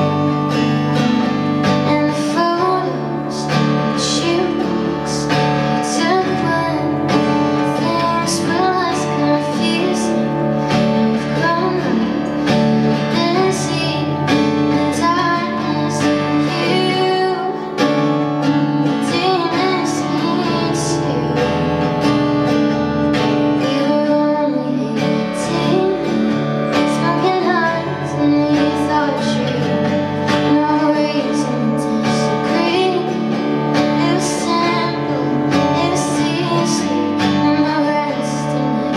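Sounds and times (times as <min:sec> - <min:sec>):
strummed acoustic guitar: 0:00.0 - 0:38.9
woman singing: 0:00.0 - 0:38.9.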